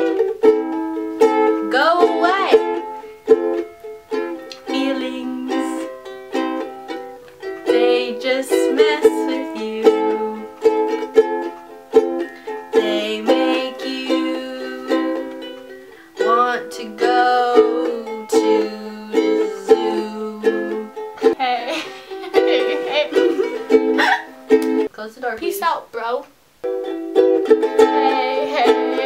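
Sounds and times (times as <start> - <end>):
ukulele plucked chords: 0.0 - 24.9, 26.6 - 29.0.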